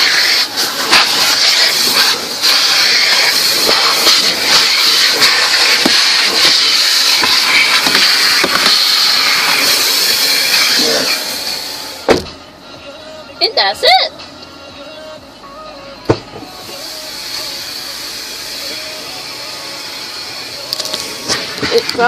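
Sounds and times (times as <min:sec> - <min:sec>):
car wash dryer blowers: 0:00.0 - 0:22.0.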